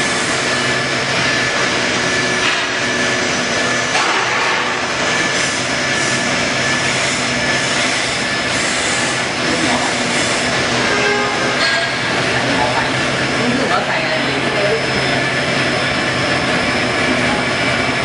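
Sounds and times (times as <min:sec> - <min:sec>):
finishing machine rushing noise: 0:00.0 - 0:18.0.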